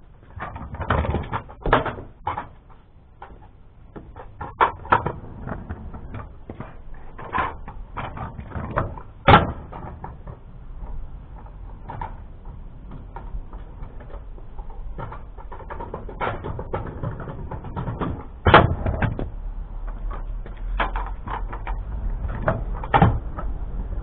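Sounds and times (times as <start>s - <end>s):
scooter wheels clattering on concrete: 0.0s - 24.0s.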